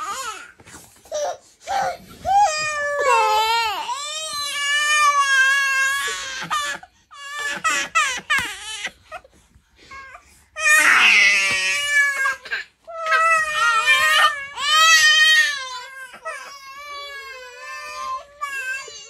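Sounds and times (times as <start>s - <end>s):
baby crying: 1.1s - 9.3s, 10.6s - 19.0s.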